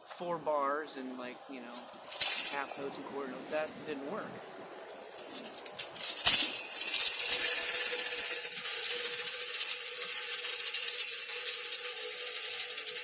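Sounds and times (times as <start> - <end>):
tambourine jingling: 1.7 - 13.0
tambourine struck: 1.8 - 13.0.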